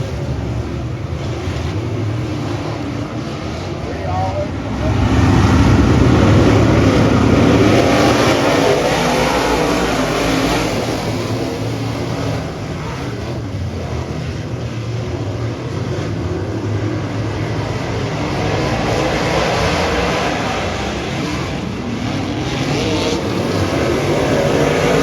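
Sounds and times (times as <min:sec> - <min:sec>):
race car engines running hard: 0:00.0 - 0:25.0.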